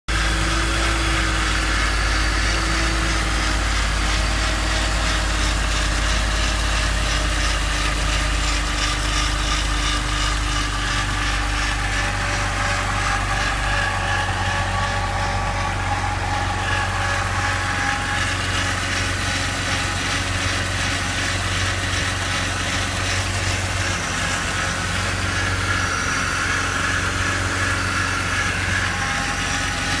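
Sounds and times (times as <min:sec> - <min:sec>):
mechanical noise from engine: 0:00.1 - 0:30.0.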